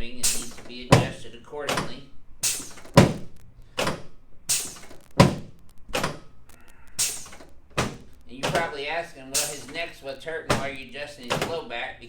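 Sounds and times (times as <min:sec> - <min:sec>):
sharp thuds: 0:00.0 - 0:11.7.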